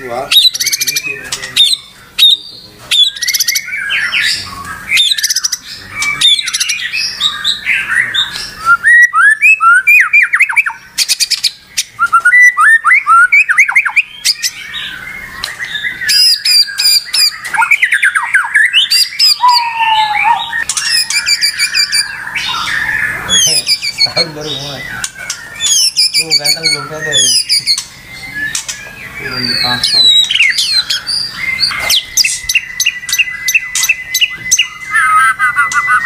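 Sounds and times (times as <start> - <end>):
songbird singing varied song: 0.0 - 36.0.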